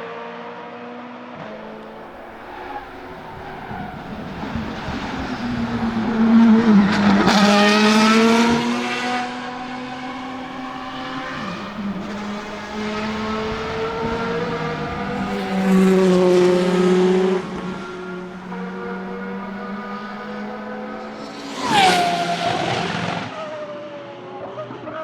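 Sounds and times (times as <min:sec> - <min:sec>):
race car engine at speed: 0:00.0 - 0:25.0.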